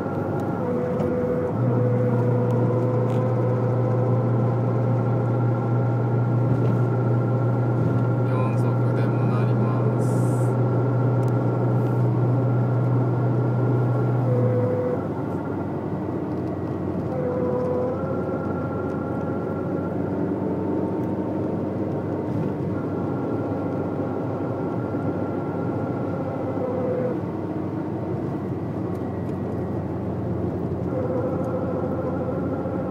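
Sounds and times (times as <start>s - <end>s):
car road and engine noise: 0.0s - 32.9s
strong low hum: 0.0s - 32.9s.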